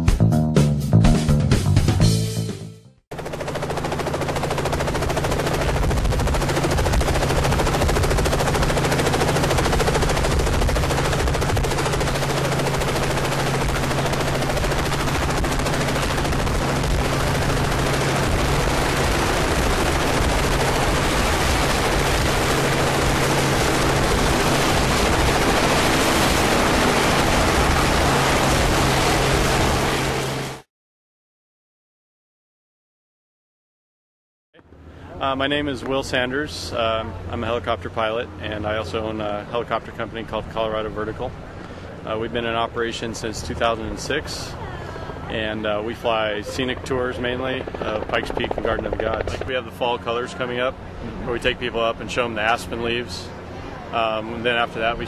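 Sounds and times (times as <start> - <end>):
helicopter rotor chop: 3.1 - 30.7, 34.7 - 55.0.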